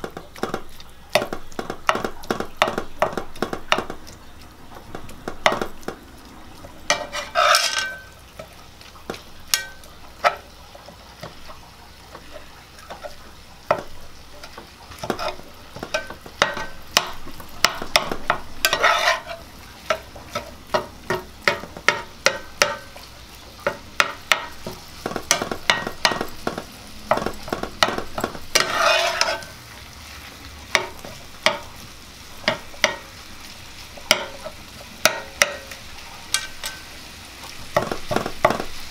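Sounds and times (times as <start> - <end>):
meat sizzling in a skillet: 0.0 - 38.9
fork and spatula scraping a pan: 6.8 - 33.2, 33.8 - 38.8.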